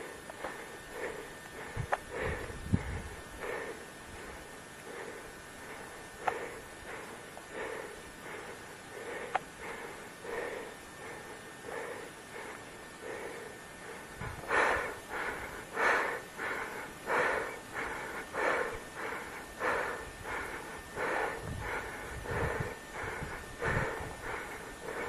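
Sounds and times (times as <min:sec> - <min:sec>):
person breathing hard: 0:00.0 - 0:25.0.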